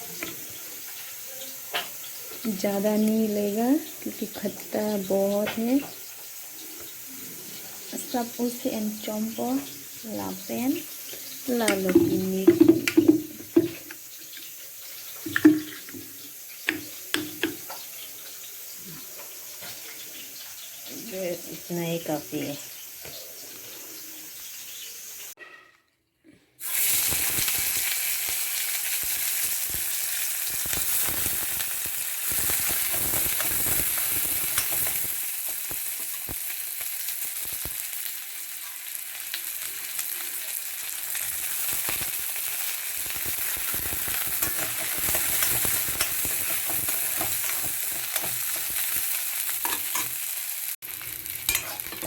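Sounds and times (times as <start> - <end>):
food sizzling in hot oil: 0.0 - 25.4, 26.6 - 52.0.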